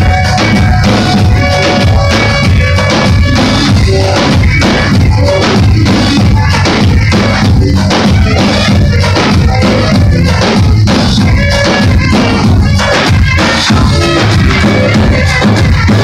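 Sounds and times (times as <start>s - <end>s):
amplified dance band: 0.0s - 16.0s
bass drums beating: 0.0s - 16.0s.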